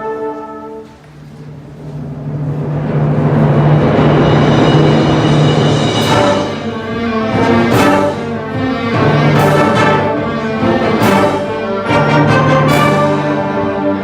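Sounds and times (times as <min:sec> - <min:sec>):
instrumental ensemble playing: 0:00.0 - 0:14.0.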